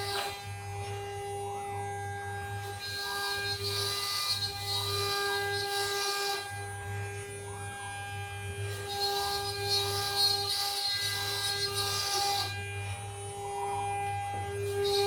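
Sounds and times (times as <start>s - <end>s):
machine motor whine and hum: 0.0s - 15.0s.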